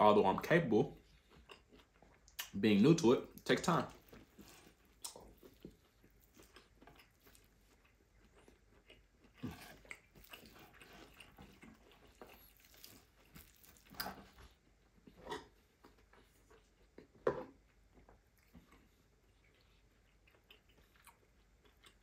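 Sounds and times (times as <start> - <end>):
chewing with mouth clicks: 1.0 - 2.6, 3.2 - 22.0.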